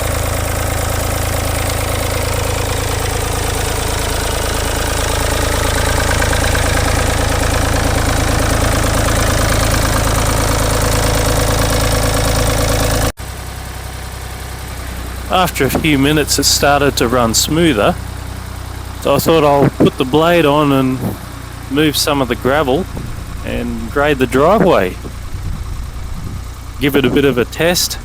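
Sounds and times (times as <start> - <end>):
diesel tractor engine knocking: 0.0 - 28.0.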